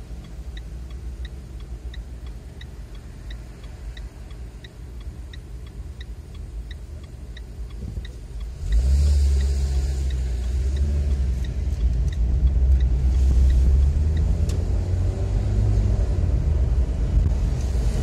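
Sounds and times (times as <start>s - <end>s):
car driving low rumble: 0.0s - 18.0s
turn signal ticking: 0.0s - 18.0s.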